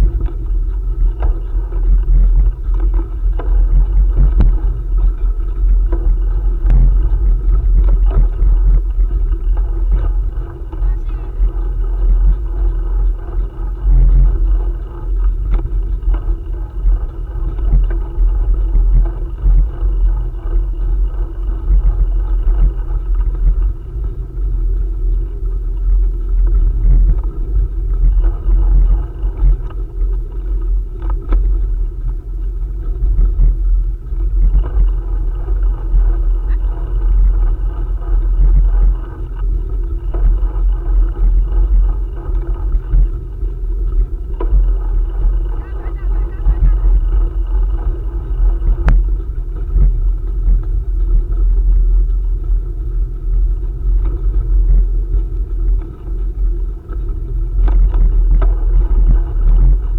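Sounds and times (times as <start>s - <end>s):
bicycle tyre rolling: 0.0s - 59.9s
wind on microphone: 0.0s - 59.9s.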